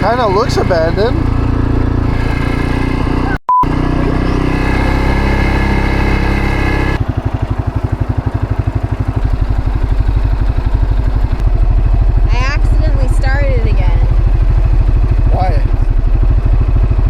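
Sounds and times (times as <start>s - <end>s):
atv engine running and idling: 0.0s - 17.0s.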